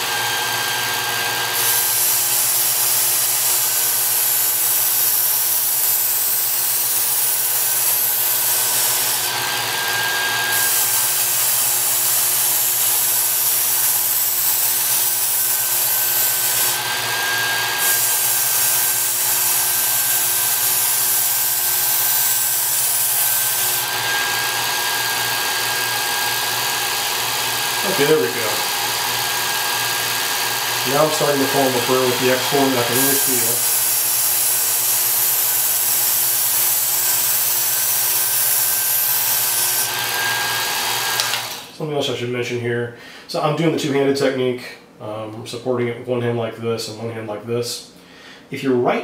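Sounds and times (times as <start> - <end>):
belt sharpener motor humming: 0.0 - 41.7
steel hissing on abrasive belt: 1.4 - 41.3.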